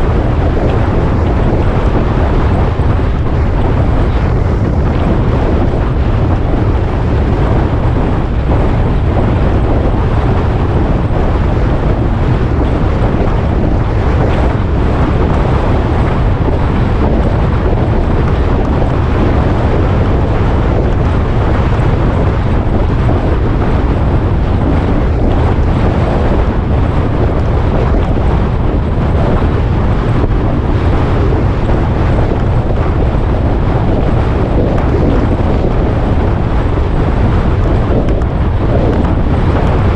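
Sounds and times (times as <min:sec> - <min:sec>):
motorcycle engine and road noise: 0:00.0 - 0:39.9
wind buffeting microphone: 0:00.0 - 0:39.9.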